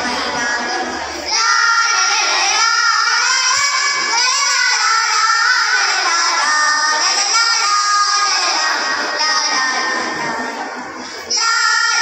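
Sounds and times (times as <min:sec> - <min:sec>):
girls singing together: 0:00.0 - 0:12.0.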